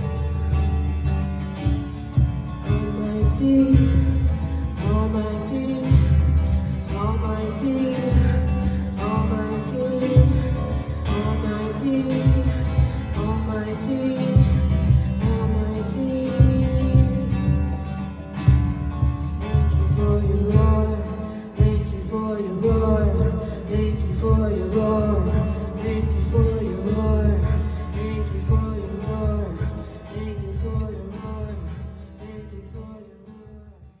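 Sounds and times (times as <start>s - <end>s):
strummed acoustic guitar: 0.0s - 34.0s
person singing: 2.7s - 18.6s, 19.5s - 34.0s.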